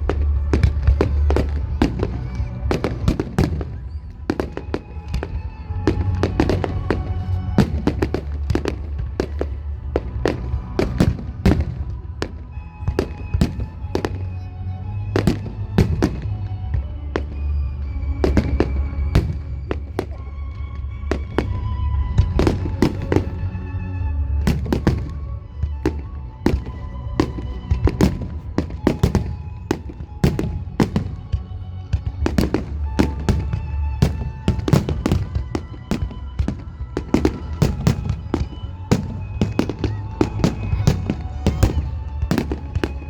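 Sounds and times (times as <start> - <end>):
fireworks bangs and cracks: 0.0 - 14.2, 18.2 - 23.5, 24.4 - 43.0.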